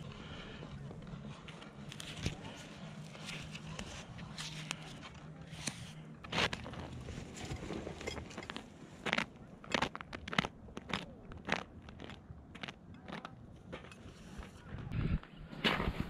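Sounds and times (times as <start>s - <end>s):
crunching and crackling: 0.2s - 15.0s.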